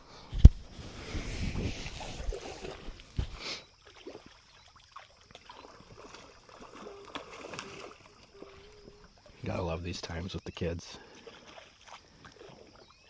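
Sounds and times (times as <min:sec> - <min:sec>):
water sloshing and lapping: 0:00.0 - 0:13.0.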